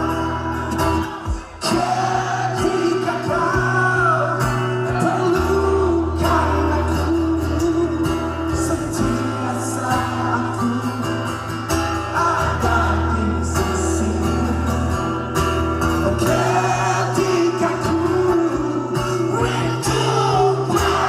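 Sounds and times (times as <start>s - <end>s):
person singing: 0.0s - 15.1s, 16.0s - 21.0s.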